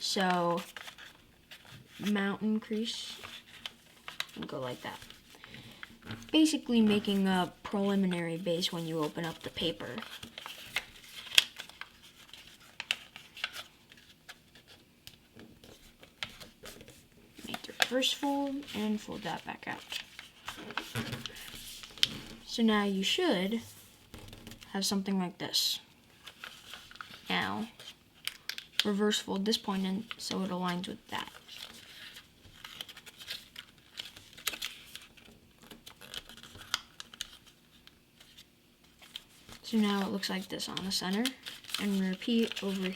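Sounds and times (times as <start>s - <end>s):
paper being folded and creased: 0.0s - 24.7s, 26.1s - 42.9s.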